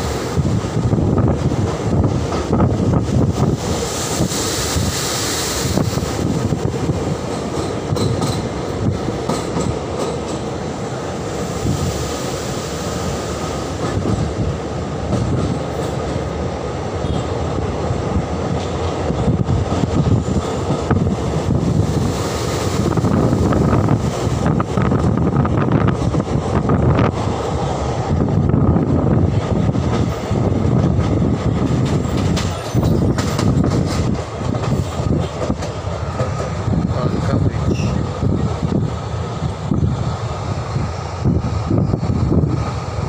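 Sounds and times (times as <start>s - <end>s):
rail clicks: 0.0s - 43.0s
train wheels rumbling on rails: 0.0s - 43.0s.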